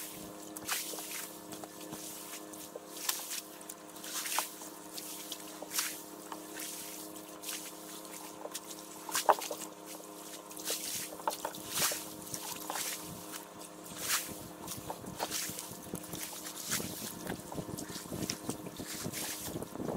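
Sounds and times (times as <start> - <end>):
steady motor hum: 0.0 - 19.9
water lapping against a boat: 0.0 - 19.9.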